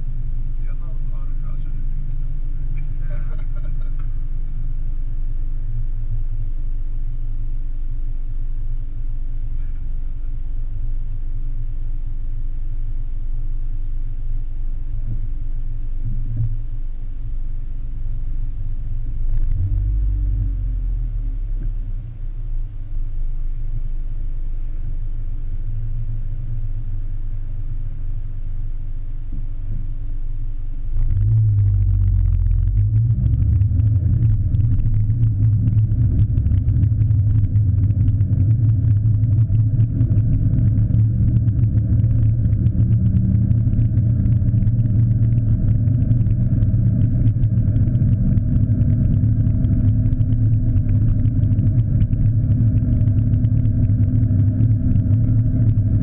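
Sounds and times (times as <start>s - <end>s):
muffled car engine idling: 0.0s - 56.0s.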